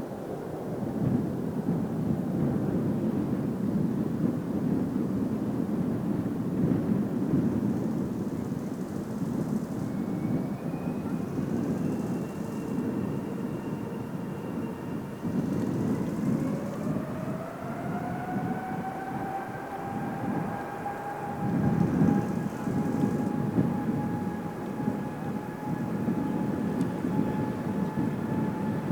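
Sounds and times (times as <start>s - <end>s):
deep jet rumble: 0.0s - 28.9s
jet engine whine rising: 5.3s - 28.9s.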